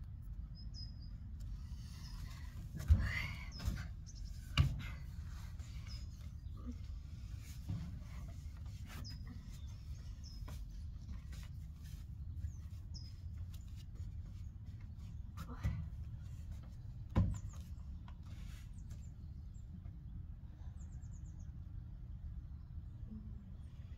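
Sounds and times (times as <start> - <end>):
birds chirping: 0.4 - 21.7.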